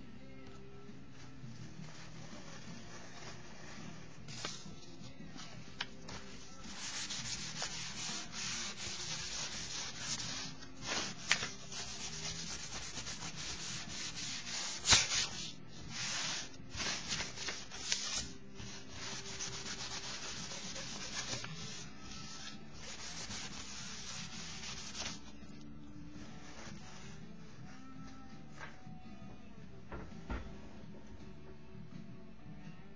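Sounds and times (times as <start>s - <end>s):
crumpled paper rubbing on paper: 1.2s - 28.7s.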